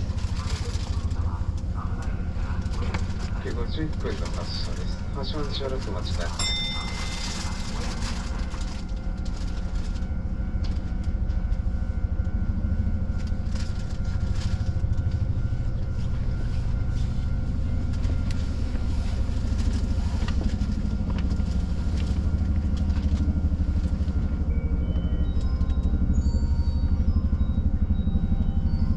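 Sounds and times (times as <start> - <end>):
electric train humming: 0.0 - 28.9.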